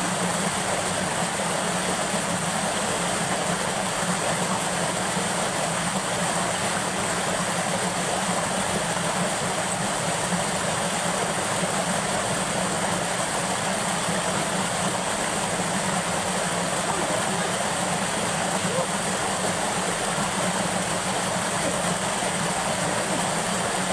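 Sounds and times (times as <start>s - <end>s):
water rushing over a dam: 0.0s - 23.9s.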